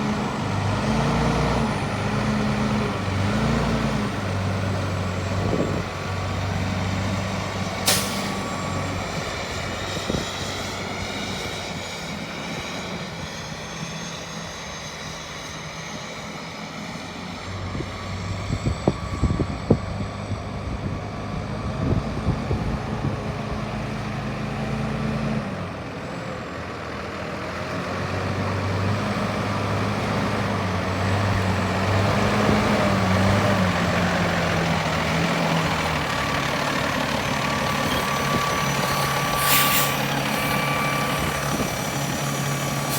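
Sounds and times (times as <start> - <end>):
truck diesel engine running: 0.0 - 14.5, 16.5 - 42.9.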